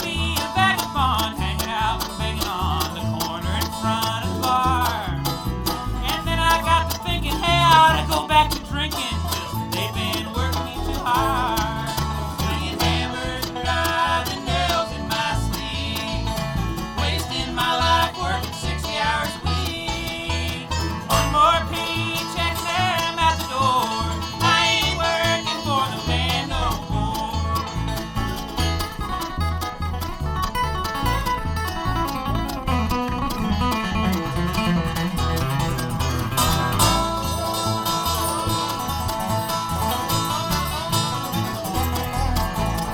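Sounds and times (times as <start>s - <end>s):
bluegrass band playing: 0.0s - 42.9s
plucked string instruments: 0.0s - 42.9s
steady bass beat: 0.0s - 42.9s.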